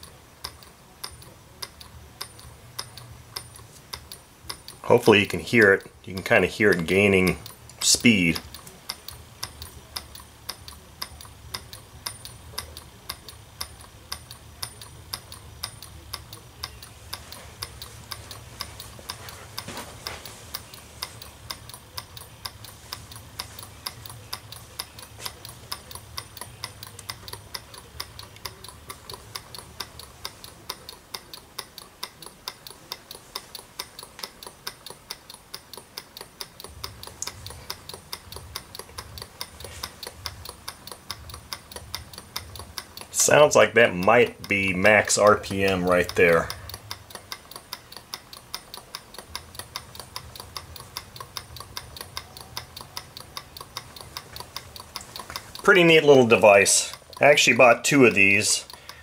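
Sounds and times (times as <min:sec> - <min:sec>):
stirling engine ticking: 0:00.0 - 0:59.0.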